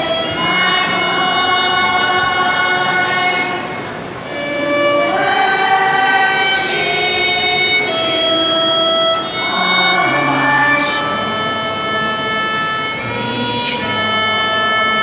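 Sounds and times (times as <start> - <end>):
children's choir singing a hymn: 0.0 - 15.0
violin accompaniment: 0.0 - 15.0.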